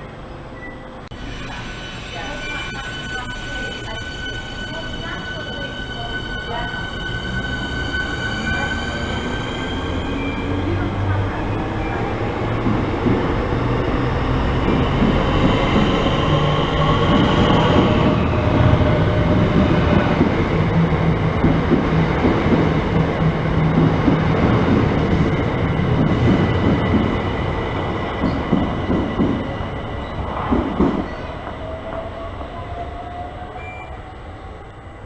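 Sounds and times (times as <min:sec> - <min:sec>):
train wheels rumbling on rails: 0:01.1 - 0:33.8.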